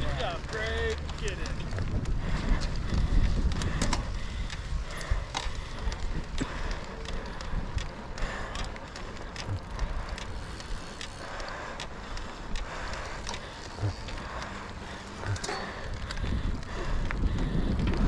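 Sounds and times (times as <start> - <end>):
chain and frame rattling: 0.0 - 17.2
bike tyres rolling on gravel: 0.0 - 18.0
wind rumble on microphone: 0.0 - 18.0.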